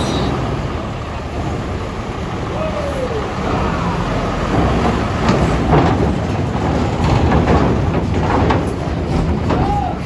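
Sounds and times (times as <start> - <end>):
diesel engines rumbling: 0.0 - 10.0.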